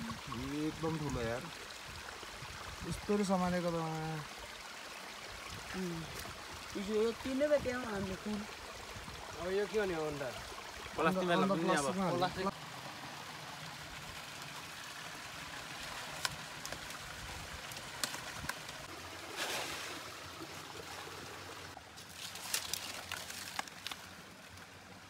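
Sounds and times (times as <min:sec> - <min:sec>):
stream trickling and gurgling: 0:00.0 - 0:25.0.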